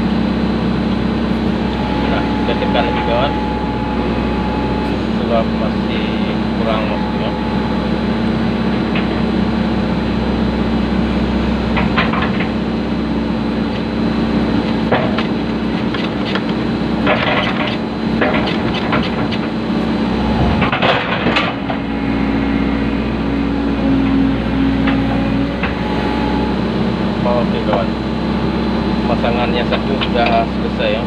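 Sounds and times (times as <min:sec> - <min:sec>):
excavator engine under load: 0:00.0 - 0:31.0.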